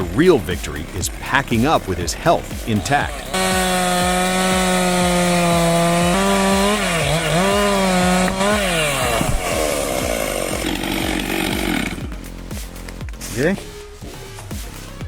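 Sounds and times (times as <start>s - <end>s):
chainsaw running at high revs: 0.0s - 13.6s.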